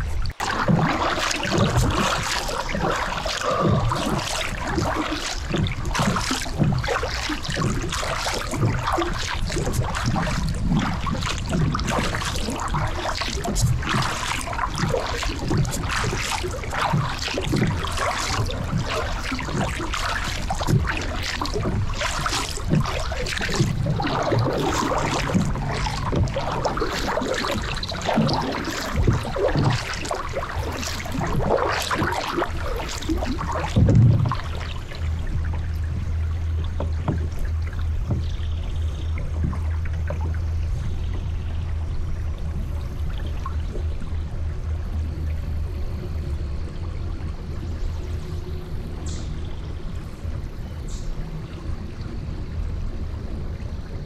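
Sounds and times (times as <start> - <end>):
kayak paddle splashing: 0.0 - 54.0.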